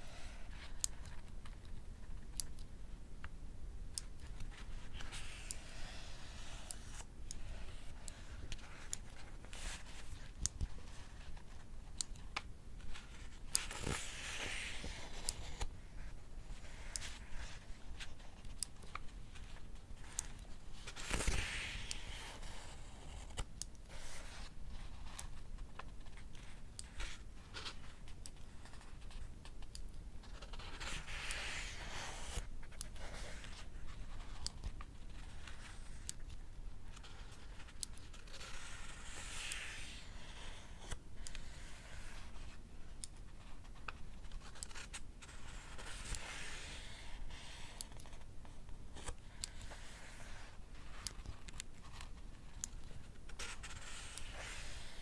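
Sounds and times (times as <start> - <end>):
book pages turning: 4.0 - 55.0.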